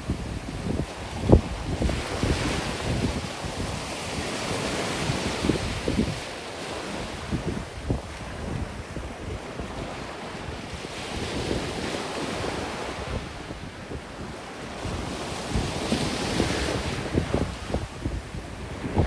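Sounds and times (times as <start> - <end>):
sea waves washing onto beach: 0.0 - 19.0
wind buffeting microphone: 0.0 - 19.0.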